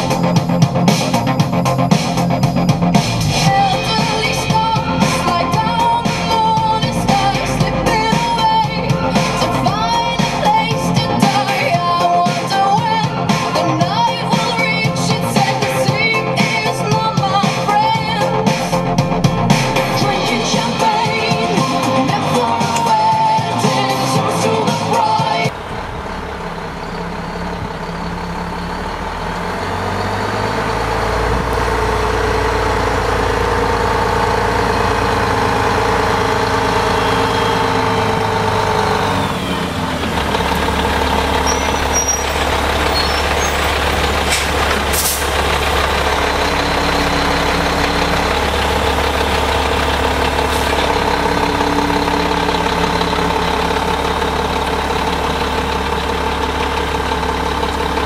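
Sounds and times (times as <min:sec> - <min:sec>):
lorry diesel engine running: 0:00.0 - 0:58.0.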